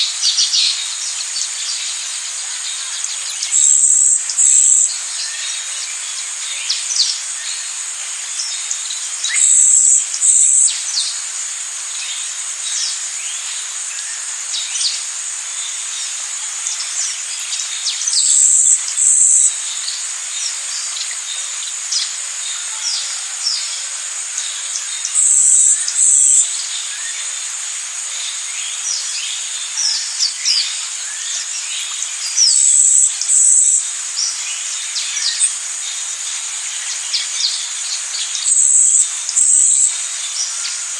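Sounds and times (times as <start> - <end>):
high-pitched insect drone: 0.0 - 40.9
insect double buzz: 0.0 - 40.9.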